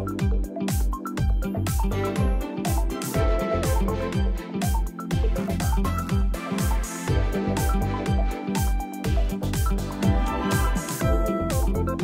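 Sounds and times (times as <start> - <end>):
electronic music with bass drum: 0.0 - 12.0.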